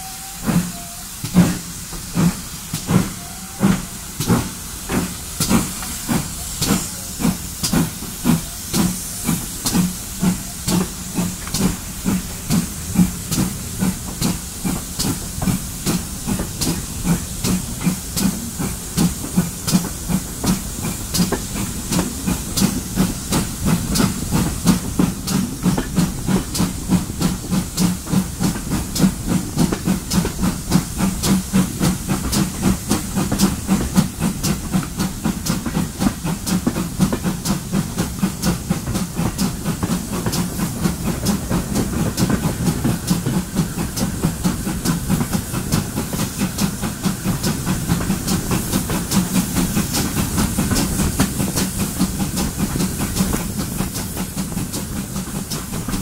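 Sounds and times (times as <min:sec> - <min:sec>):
steady steam hiss: 0:00.0 - 0:56.0
steam locomotive chuffing: 0:00.0 - 0:56.0.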